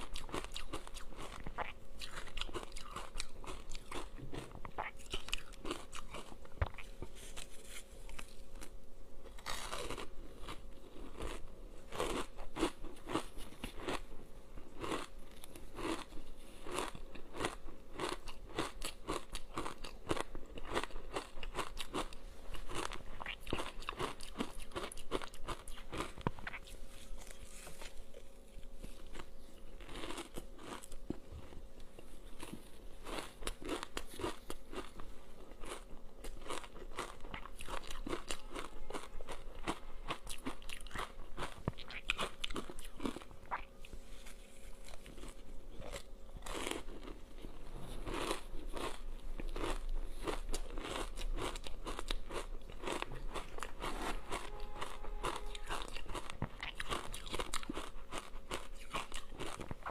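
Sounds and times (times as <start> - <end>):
ice being chewed crunching: 0.0 - 59.9.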